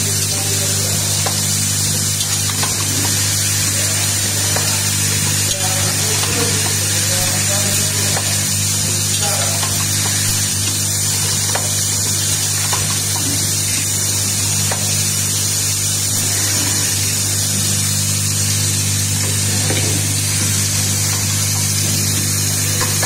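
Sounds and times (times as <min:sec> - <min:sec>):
machine low hum and hiss: 0:00.0 - 0:23.0.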